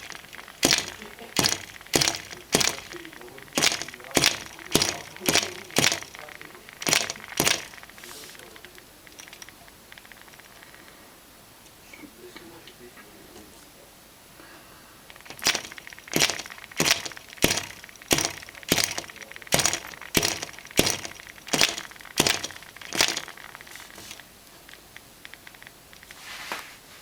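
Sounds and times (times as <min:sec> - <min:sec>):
sharp glassy clicks: 0:00.0 - 0:11.8, 0:15.0 - 0:26.2.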